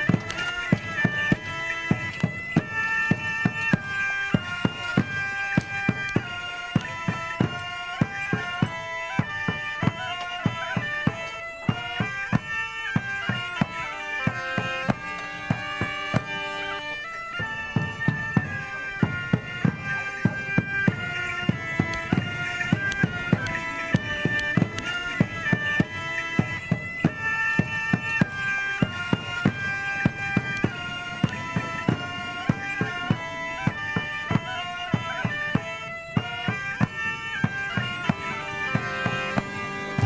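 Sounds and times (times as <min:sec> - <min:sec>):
steady drum beat: 0:00.0 - 0:33.3, 0:37.8 - 0:40.0
bagpipes playing a tune: 0:00.0 - 0:40.0.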